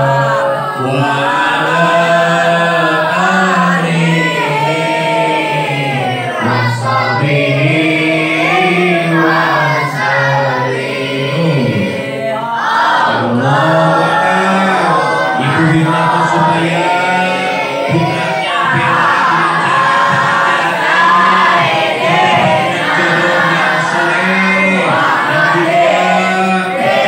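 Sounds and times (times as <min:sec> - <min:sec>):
group chanting prayers in unison: 0:00.0 - 0:27.0.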